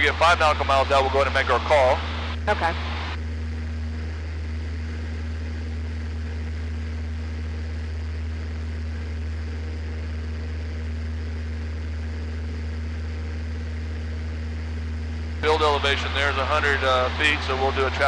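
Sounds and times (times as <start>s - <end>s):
airplane engine droning in cockpit: 0.0s - 18.0s.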